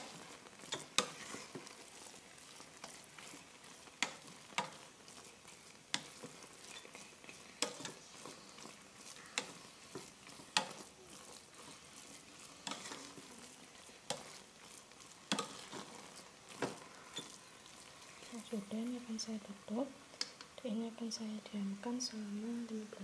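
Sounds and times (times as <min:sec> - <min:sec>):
rice grains rustling: 0:00.0 - 0:19.8.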